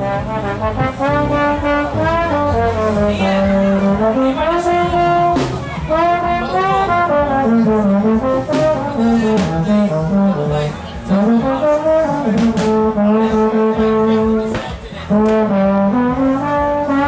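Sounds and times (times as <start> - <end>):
trombone playing sliding melody: 0.0 - 17.0.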